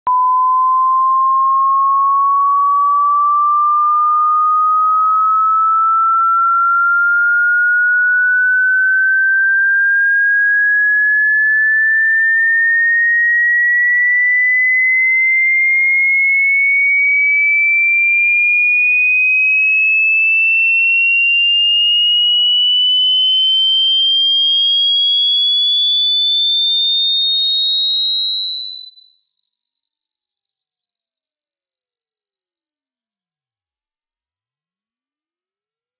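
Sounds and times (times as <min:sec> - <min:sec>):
sine tone rising in pitch: 0:00.1 - 0:35.9.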